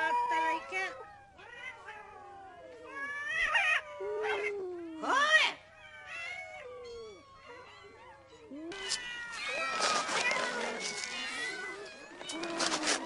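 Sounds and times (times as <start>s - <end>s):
cats meowing: 0.0s - 13.0s.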